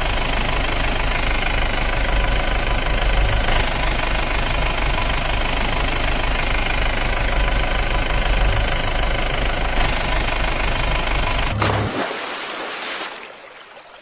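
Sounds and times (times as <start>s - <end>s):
engine low pulsing rumble: 0.0s - 14.0s.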